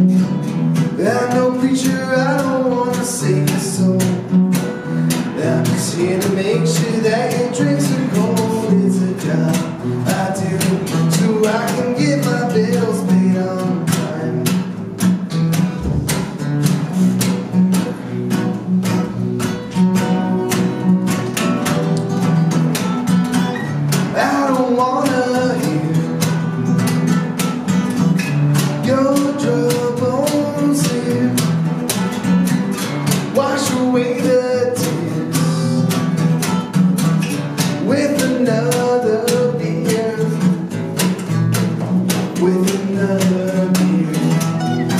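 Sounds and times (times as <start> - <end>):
acoustic bass guitar line: 0.0 - 44.9
acoustic guitar strummed: 0.0 - 44.9.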